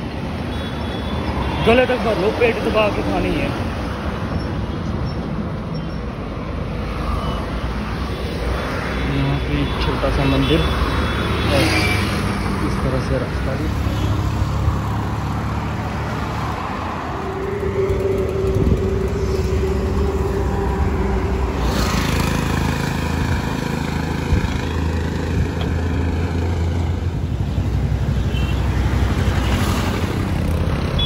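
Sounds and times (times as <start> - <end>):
passing cars and heavier vehicles: 0.0 - 31.0.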